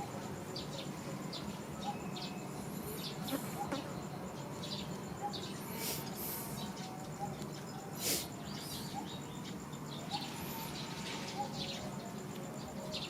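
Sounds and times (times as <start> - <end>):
pulsing insect trill: 0.0 - 13.0.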